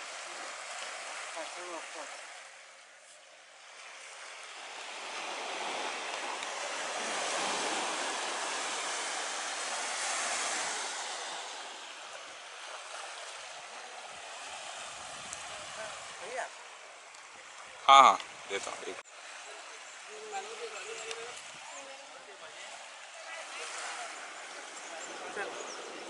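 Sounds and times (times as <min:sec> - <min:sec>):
small waves washing onto shore: 0:00.0 - 0:26.0.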